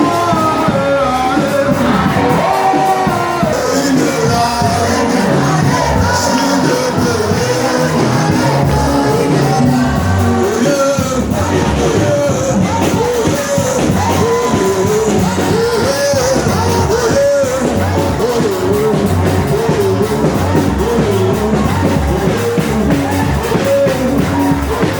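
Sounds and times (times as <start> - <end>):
band playing steady beat: 0.0 - 24.9
voices singing: 0.0 - 24.9.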